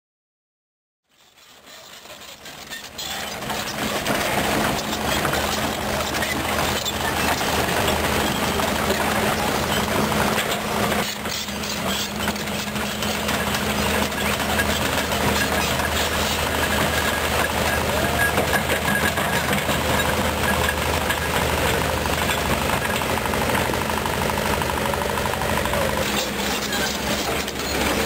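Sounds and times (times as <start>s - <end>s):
excavator diesel engine running: 1.2s - 28.0s.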